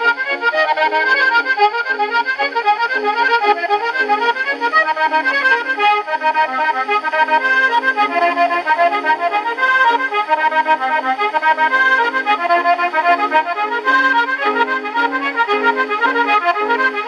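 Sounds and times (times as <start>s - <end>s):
button accordion dance tune: 0.0s - 17.0s.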